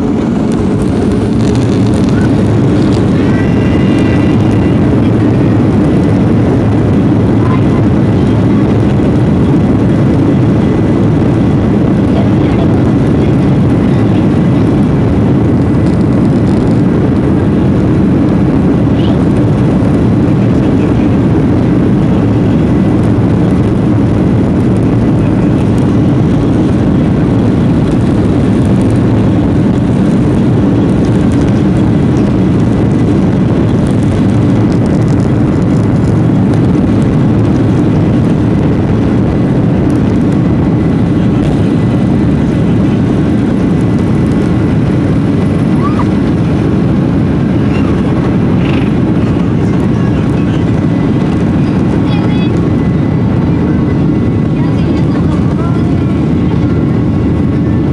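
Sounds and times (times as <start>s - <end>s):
jet engines roaring in cabin: 0.0s - 57.9s.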